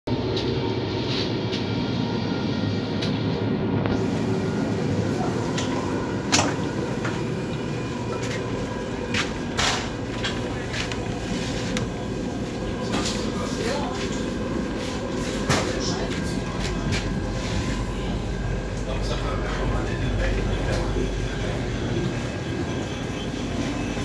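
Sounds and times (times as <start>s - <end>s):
train running rumble and hum: 0.1s - 24.0s.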